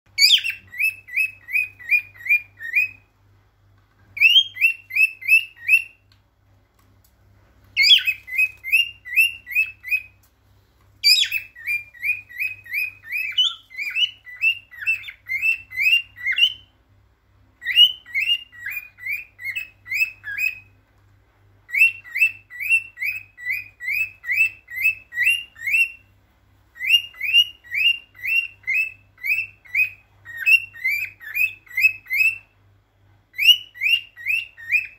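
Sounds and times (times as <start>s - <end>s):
cockatiel whistling song: 0.1s - 3.1s, 4.2s - 6.1s, 7.8s - 10.2s, 11.0s - 16.7s, 17.6s - 20.8s, 21.6s - 32.6s, 33.3s - 34.9s.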